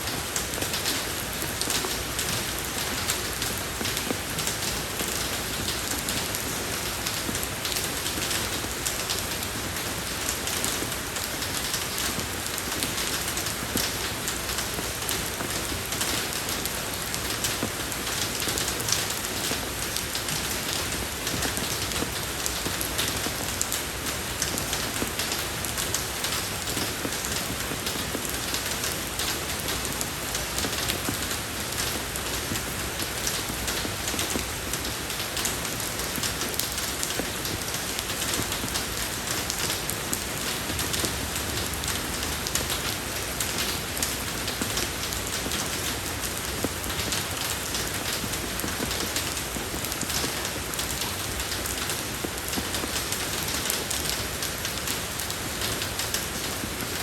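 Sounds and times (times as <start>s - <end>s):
rain falling on road: 0.0s - 57.0s.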